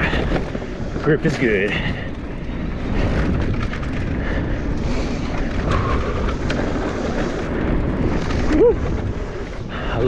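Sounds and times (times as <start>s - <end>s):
bike rattling and knocking: 0.0s - 10.0s
bike tyres rolling on dirt: 0.0s - 10.0s
wind on microphone: 0.0s - 10.0s.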